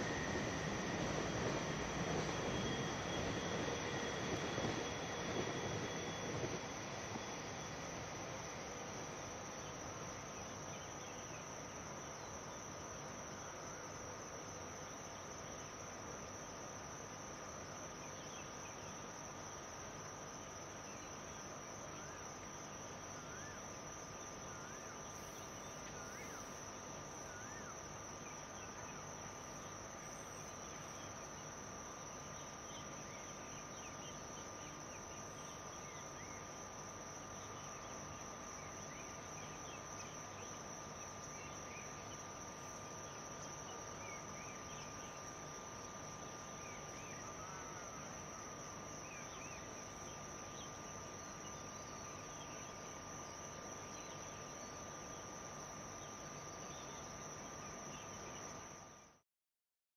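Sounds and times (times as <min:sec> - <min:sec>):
high-pitched insect chorus: 0:00.0 - 0:59.2.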